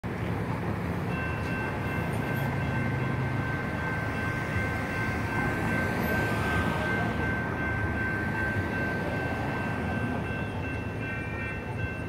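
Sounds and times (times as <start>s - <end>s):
light rail train humming: 0.0s - 12.0s.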